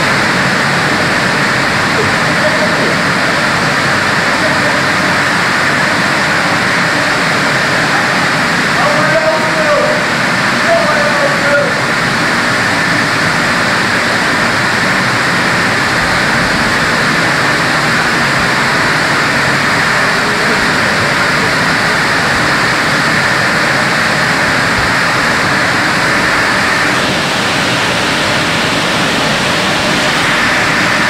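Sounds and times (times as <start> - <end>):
car wash rushing noise: 0.0 - 31.0.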